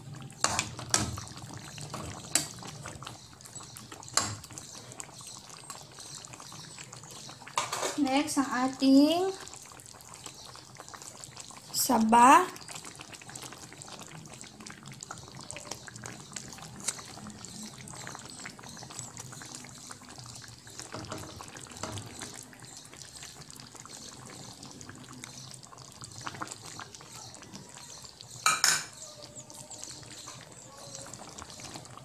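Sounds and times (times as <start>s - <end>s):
stew bubbling in a pan: 0.0s - 32.0s.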